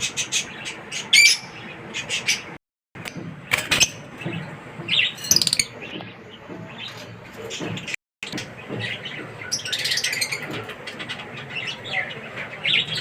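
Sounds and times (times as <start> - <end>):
parrots chirping and squawking: 0.0 - 2.6, 3.7 - 6.1, 6.7 - 13.0.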